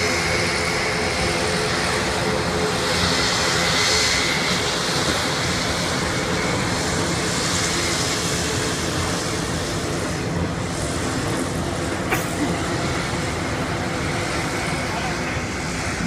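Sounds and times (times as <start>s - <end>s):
large aircraft engine noise: 0.0s - 16.0s.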